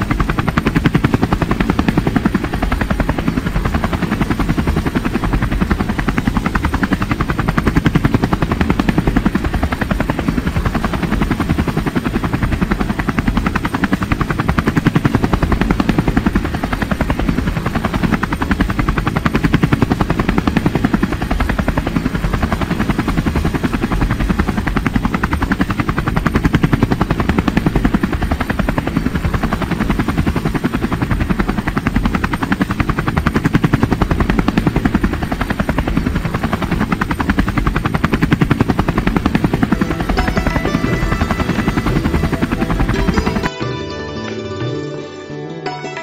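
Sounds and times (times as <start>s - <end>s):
helicopter rotor chopping: 0.0s - 43.5s.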